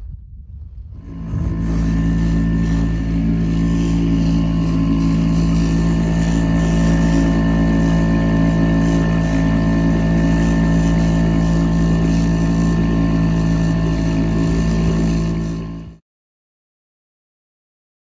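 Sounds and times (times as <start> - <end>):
boat motor drone: 0.8 - 16.0.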